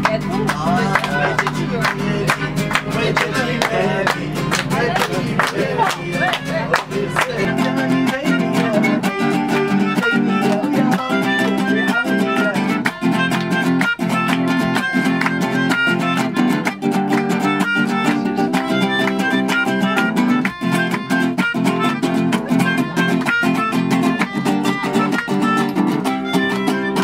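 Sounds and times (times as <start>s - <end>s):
held string-like notes: 0.0s - 27.0s
plucked acoustic guitar: 0.0s - 27.0s
steady beat: 0.0s - 27.0s.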